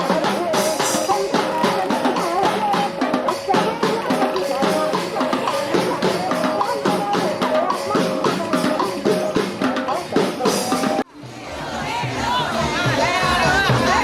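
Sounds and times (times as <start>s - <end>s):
background music with drum beat: 0.0s - 14.0s.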